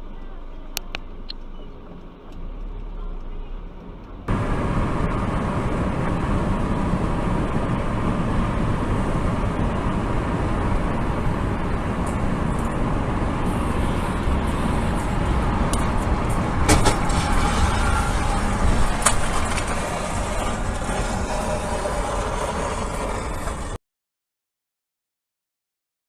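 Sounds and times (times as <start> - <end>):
car road and engine noise: 0.0 - 23.8.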